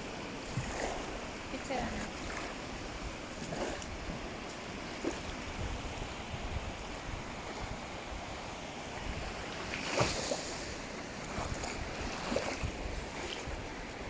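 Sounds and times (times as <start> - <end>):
ocean waves washing on beach: 0.0 - 14.0
wind rumbling on microphone: 0.0 - 14.0.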